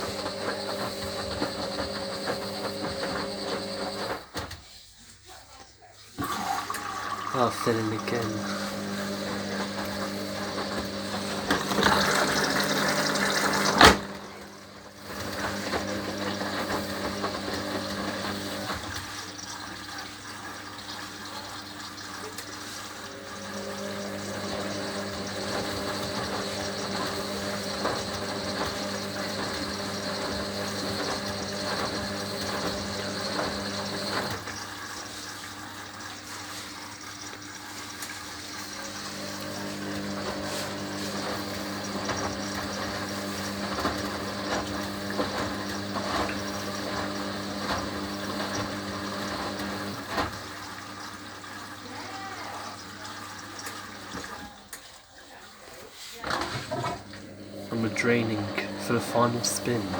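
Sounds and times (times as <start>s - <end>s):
washing machine motor humming: 0.0s - 4.5s, 6.2s - 54.8s, 56.2s - 59.9s.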